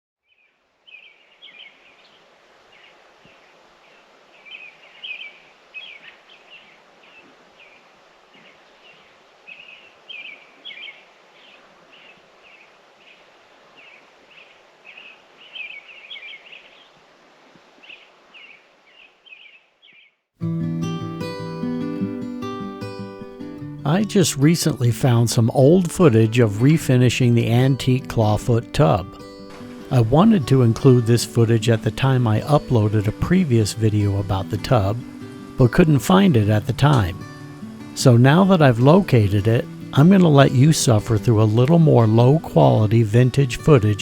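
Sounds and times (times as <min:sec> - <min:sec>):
small birds chirping: 0:00.2 - 0:26.3, 0:27.2 - 0:44.0
steady background hiss: 0:00.3 - 0:19.7, 0:20.4 - 0:44.0.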